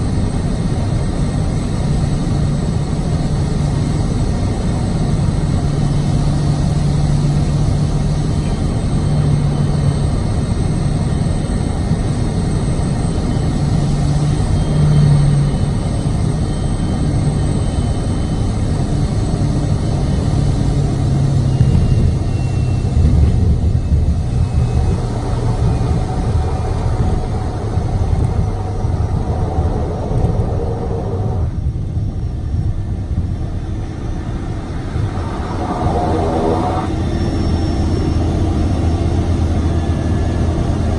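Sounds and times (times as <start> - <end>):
turboprop engine drone: 0.0 - 40.9.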